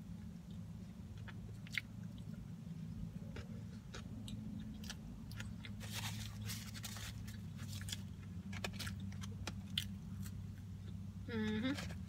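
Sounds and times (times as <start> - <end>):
steady low hum: 0.0 - 12.0
person chewing food: 0.2 - 11.1.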